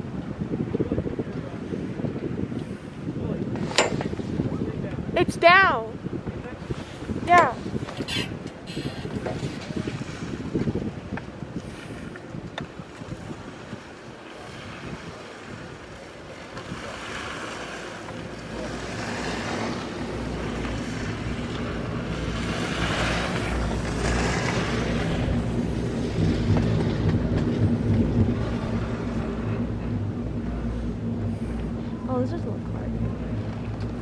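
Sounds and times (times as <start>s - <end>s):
low rumble of chairlift rope: 0.0s - 34.0s
wind on microphone: 0.0s - 34.0s.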